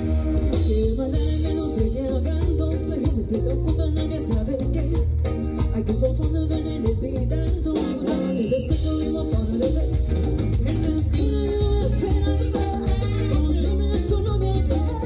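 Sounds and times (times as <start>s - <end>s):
live latin band playing: 0.0s - 15.0s.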